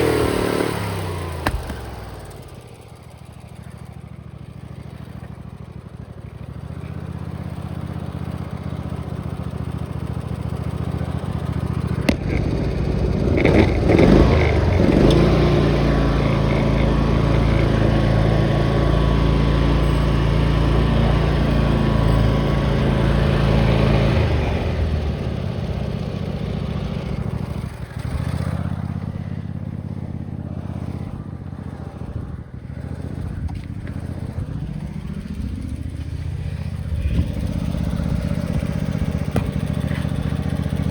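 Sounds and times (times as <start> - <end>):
tractor engine revving: 0.0 - 3.0, 6.8 - 40.9.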